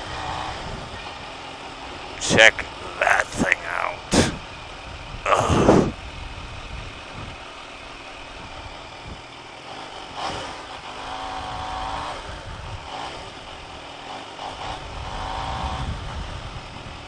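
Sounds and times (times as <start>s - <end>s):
motorcycle engine running: 0.0s - 2.9s, 4.4s - 17.0s
wind and road noise: 0.0s - 17.0s.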